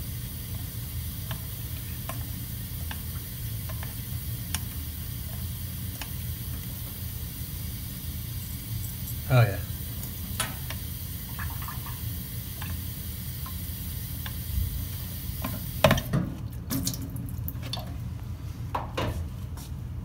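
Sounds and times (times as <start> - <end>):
tap water running: 0.0 - 18.0.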